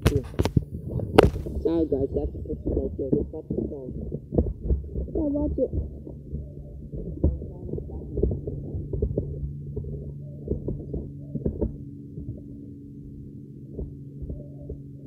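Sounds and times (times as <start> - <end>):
bumps and rubbing on microphone: 0.0 - 12.8
steady low hum: 0.0 - 15.0.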